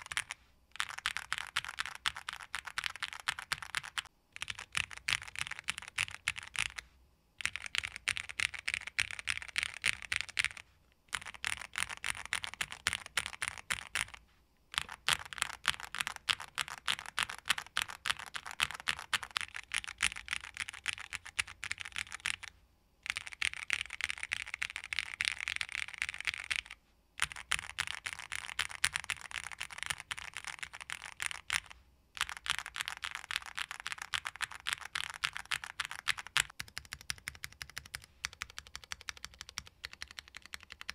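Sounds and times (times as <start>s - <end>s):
mechanical keyboard typing: 0.0s - 6.8s, 7.4s - 40.9s.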